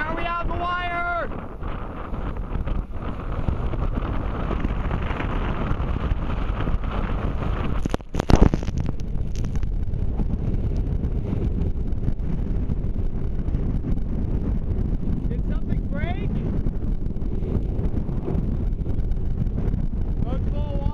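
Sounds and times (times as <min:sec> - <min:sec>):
loud crackling burst: 0:00.0 - 0:20.9
wind buffeting microphone: 0:00.0 - 0:20.9.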